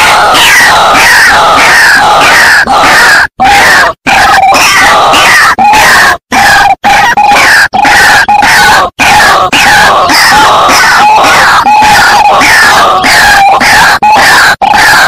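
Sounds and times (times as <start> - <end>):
harsh bird croaking calls: 0.0 - 15.0.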